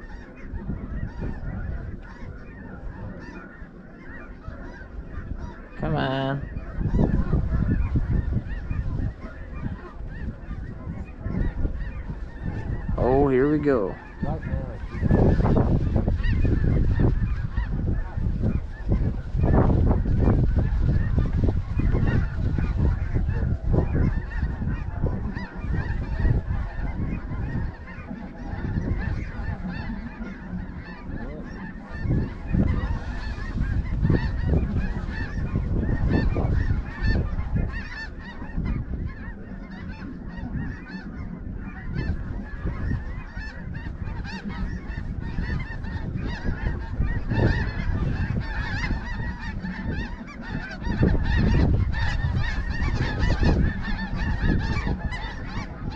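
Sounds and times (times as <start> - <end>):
flock of geese honking: 0.0 - 55.9.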